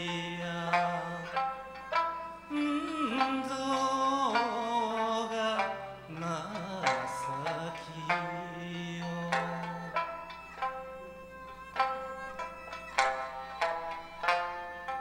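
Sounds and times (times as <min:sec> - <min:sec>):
man singing wavering line: 0:00.0 - 0:15.0
plucked lute folk accompaniment: 0:00.0 - 0:15.0.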